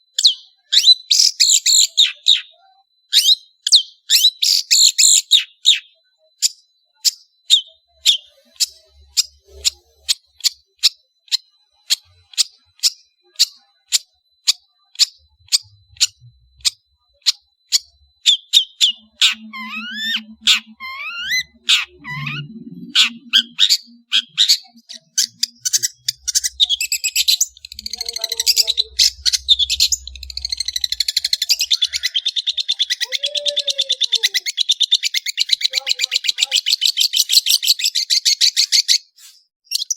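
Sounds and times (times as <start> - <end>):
shrike singing: 3.1 - 38.8.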